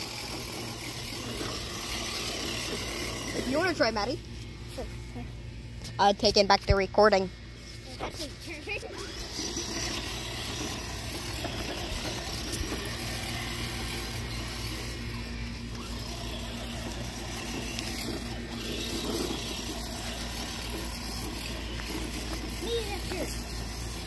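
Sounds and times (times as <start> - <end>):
toy car motor whirring: 0.0 - 5.2, 7.5 - 24.0.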